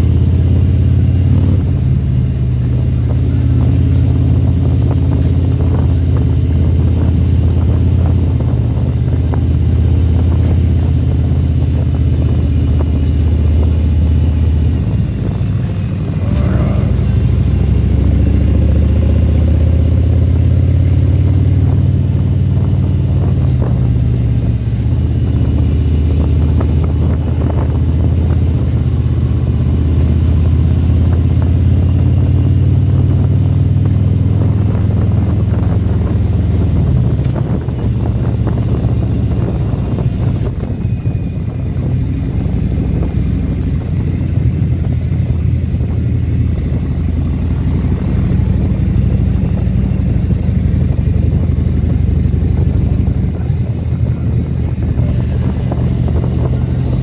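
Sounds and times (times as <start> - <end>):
motorcycle engine running: 0.0 - 57.0
road noise: 0.0 - 57.0
wind noise: 0.0 - 57.0.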